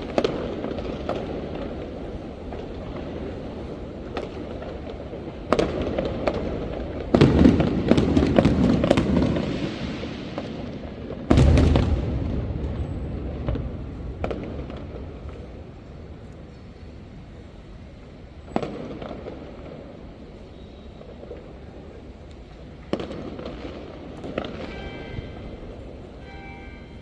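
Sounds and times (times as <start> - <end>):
fireworks rapid crackling: 0.0 - 26.4
fireworks bangs: 0.0 - 27.0.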